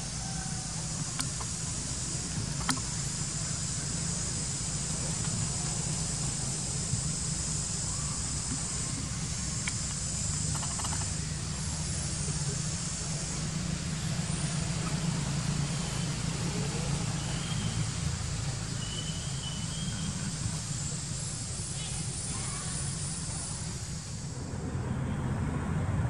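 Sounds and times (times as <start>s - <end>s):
high hiss: 0.0s - 26.0s.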